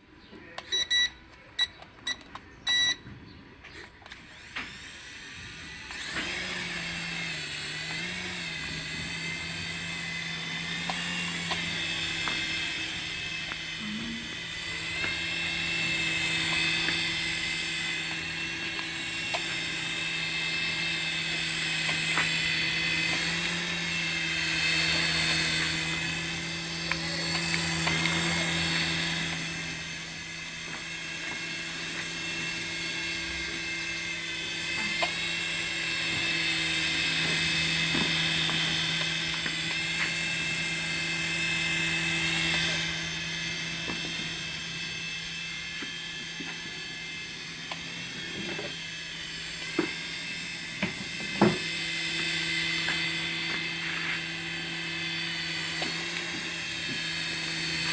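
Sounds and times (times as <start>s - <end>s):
toy helicopter motor whining: 0.2s - 57.9s.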